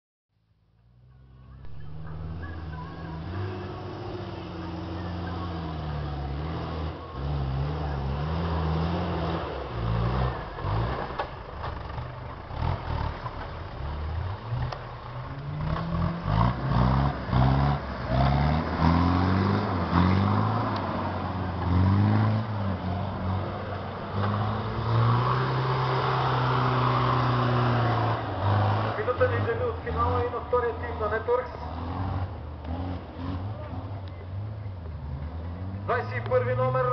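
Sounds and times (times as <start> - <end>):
off-road vehicle engine revving: 0.9 - 36.9.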